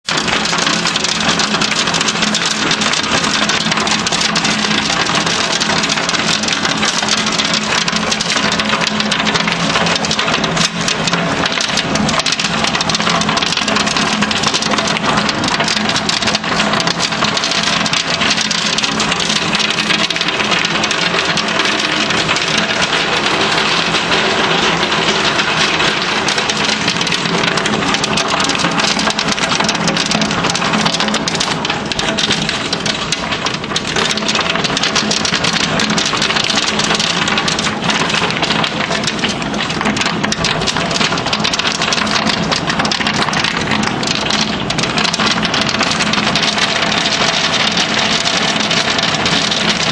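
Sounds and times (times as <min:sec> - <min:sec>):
hailstones pelting down: 0:00.0 - 0:49.9.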